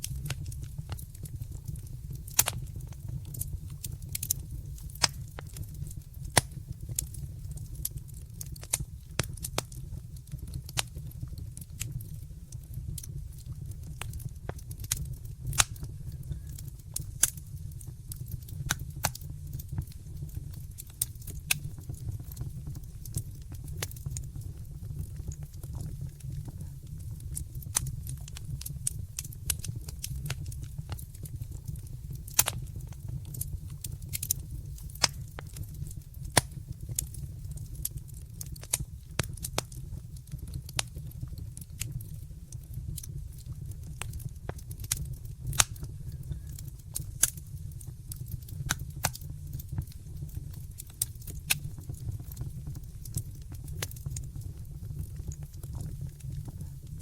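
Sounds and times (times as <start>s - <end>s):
fire crackling and popping: 0.0s - 57.0s
wood fire rumbling: 0.0s - 57.0s.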